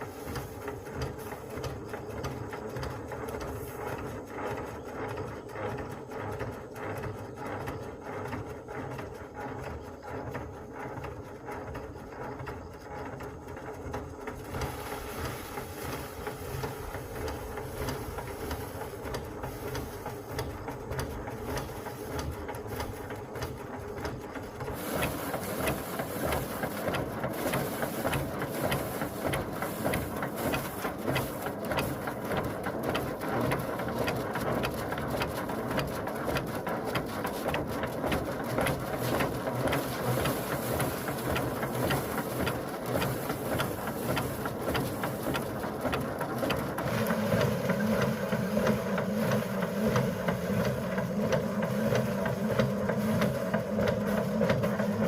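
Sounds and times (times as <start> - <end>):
small machine rattling: 0.0 - 55.0.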